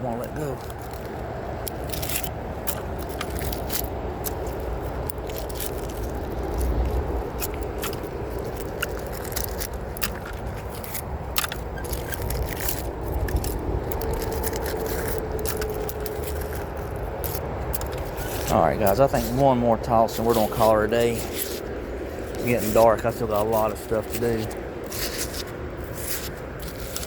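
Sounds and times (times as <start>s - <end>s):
scrap metal scraping: 0.8s - 27.0s.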